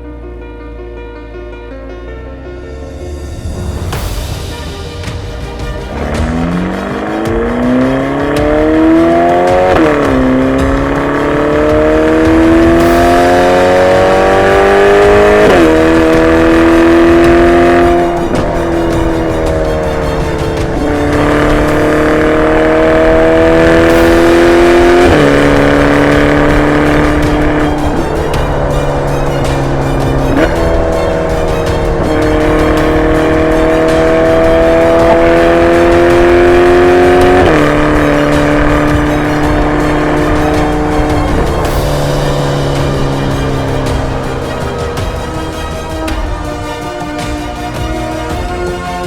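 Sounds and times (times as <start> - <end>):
car engine accelerating through gears: 5.4 - 49.0.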